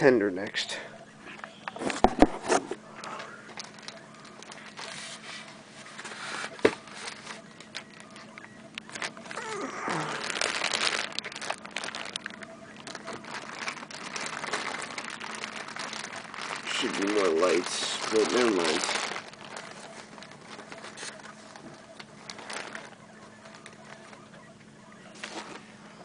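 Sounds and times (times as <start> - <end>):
packaging crinkling: 0.7 - 25.9.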